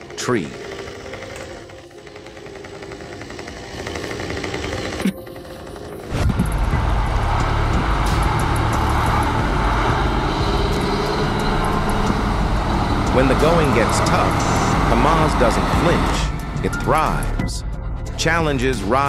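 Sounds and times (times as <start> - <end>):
truck diesel engine under load: 0.0 - 5.0, 6.1 - 17.4
rapid mechanical buzz: 0.0 - 19.0.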